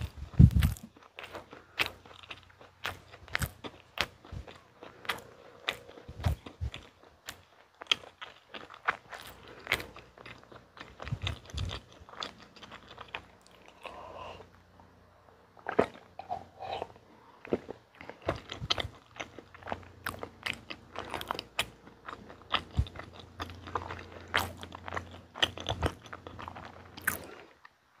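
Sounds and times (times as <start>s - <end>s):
wet chewing clicks and smacks: 0.4s - 13.9s, 17.5s - 27.8s.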